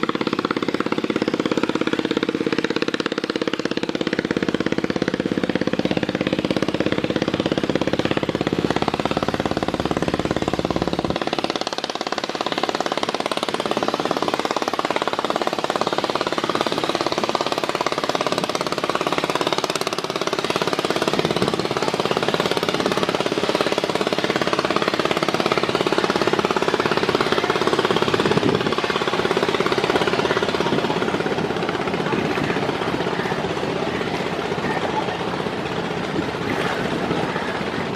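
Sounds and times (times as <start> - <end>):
diesel boat engine drone: 0.0 - 37.9.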